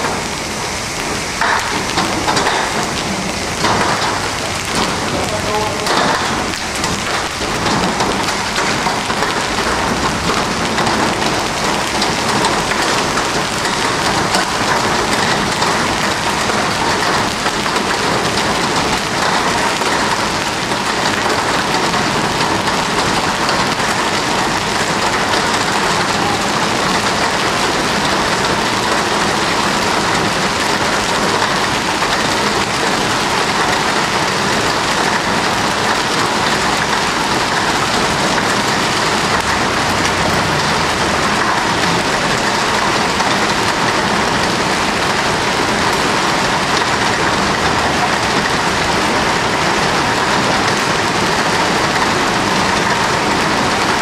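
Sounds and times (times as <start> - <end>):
hail and rain pelting pavement: 0.0 - 54.0.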